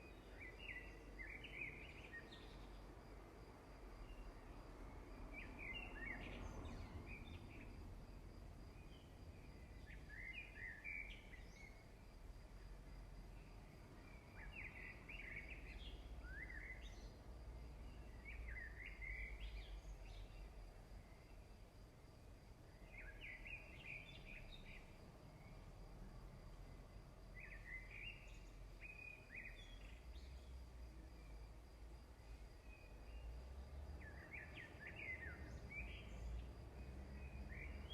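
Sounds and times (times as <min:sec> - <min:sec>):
faint bird chirping: 0:00.0 - 0:37.9
quiet background rumble: 0:00.0 - 0:37.9.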